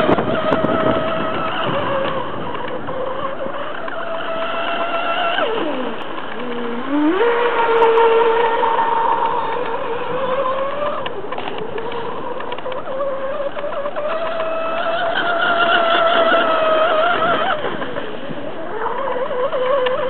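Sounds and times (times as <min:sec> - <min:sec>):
electric boat motor whine: 0:00.0 - 0:20.0.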